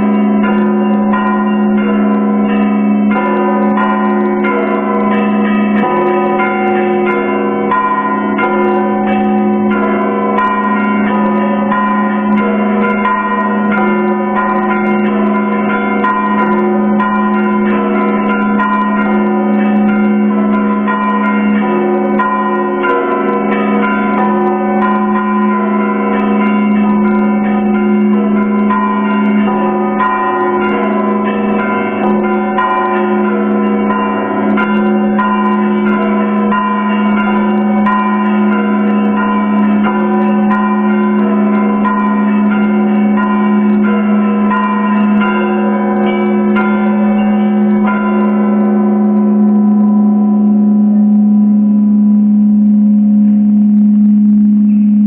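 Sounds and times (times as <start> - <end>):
steady low bell hum: 0.0 - 55.0.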